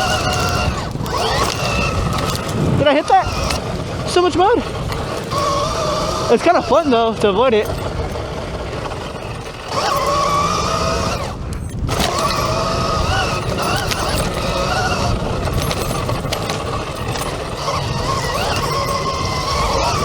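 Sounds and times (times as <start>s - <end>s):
electric dirt bike motor whining: 0.0s - 20.0s
heavy wind: 0.0s - 20.0s
tyre rumble: 0.0s - 20.0s.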